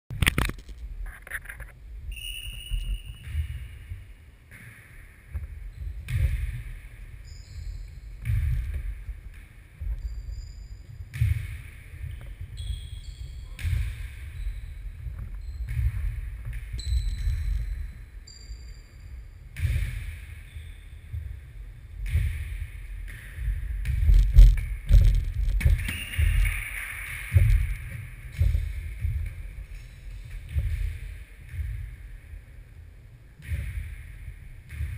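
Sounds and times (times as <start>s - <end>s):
muffled sports hall rumble: 0.1s - 34.9s.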